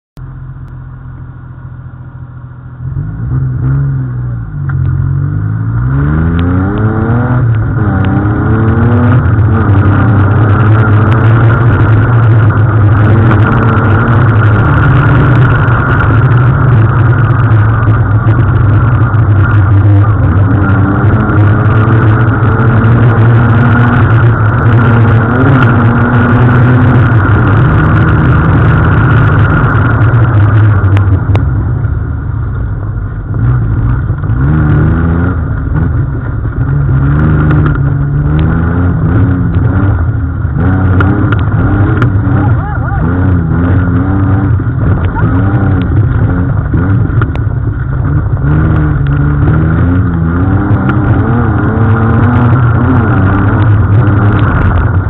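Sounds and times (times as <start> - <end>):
off-road buggy engine revving: 2.8 - 55.0.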